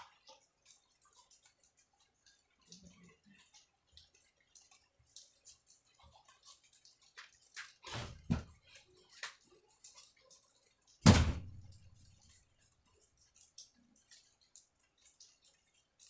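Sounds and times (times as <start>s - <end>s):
faint ticks and clicks: 0.0s - 16.0s.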